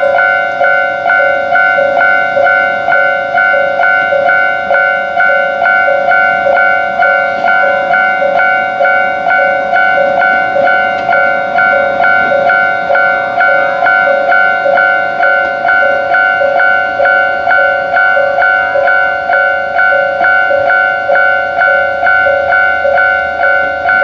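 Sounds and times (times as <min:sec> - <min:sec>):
level crossing bell ringing: 0:00.0 - 0:24.0.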